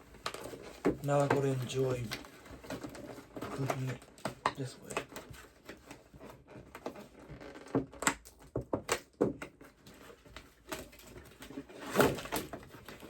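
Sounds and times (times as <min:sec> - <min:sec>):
plastic and cardboard crackling: 0:00.0 - 0:13.0.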